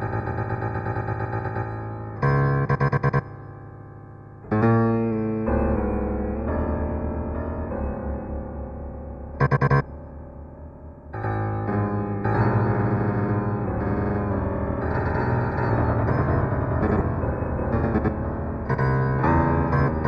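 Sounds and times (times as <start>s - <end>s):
synthesized electric piano tones: 0.0s - 20.0s.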